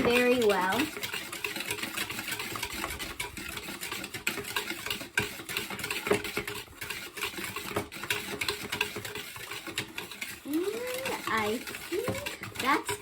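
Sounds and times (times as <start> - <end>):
utensil scraping mixing bowl: 0.0 - 13.0.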